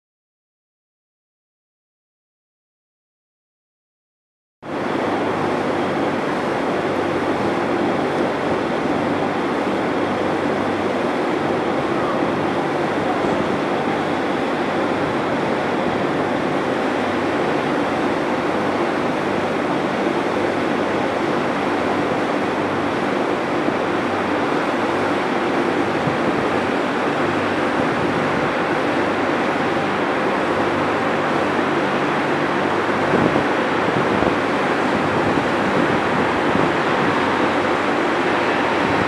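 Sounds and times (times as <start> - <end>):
engines and ventilation rushing: 4.6 - 39.0.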